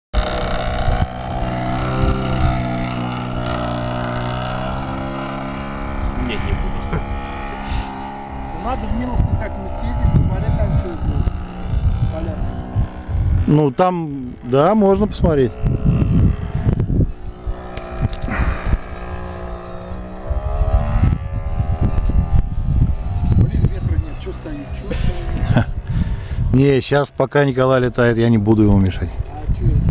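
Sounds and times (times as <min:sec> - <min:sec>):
model airplane engine buzzing: 0:00.2 - 0:26.6.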